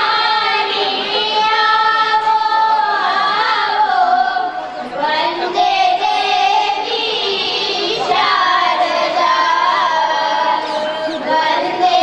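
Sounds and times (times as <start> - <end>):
girls singing a hymn: 0.0 - 12.0.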